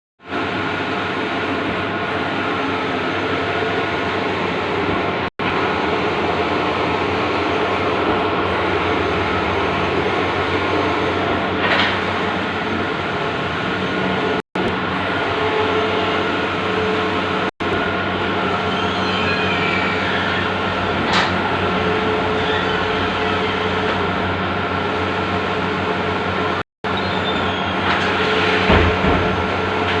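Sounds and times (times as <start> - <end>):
printer mechanical whir and hum: 0.2 - 30.0.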